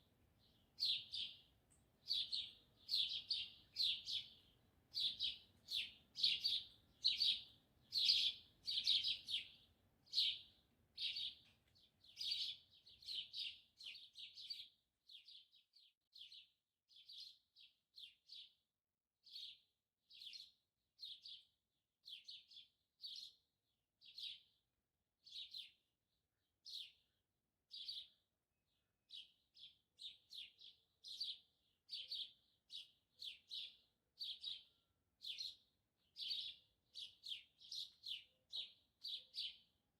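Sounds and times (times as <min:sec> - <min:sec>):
small birds chirping: 0:00.0 - 0:18.6, 0:19.2 - 0:24.6, 0:25.2 - 0:25.9, 0:26.6 - 0:39.9.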